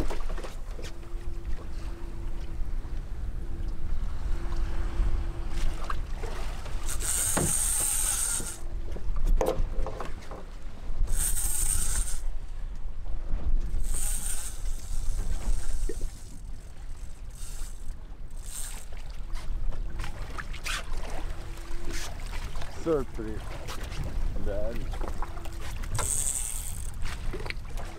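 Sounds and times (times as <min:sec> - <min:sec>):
outboard motor running: 0:00.0 - 0:10.0, 0:11.0 - 0:12.3, 0:13.7 - 0:27.9.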